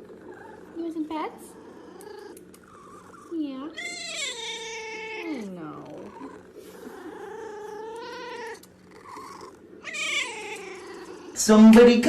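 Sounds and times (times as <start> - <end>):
cat yowling: 0.0 - 11.4.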